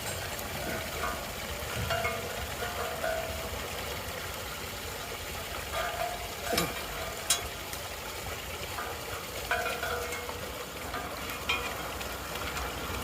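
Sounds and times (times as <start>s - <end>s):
water trickling through storm drain: 0.0s - 13.0s.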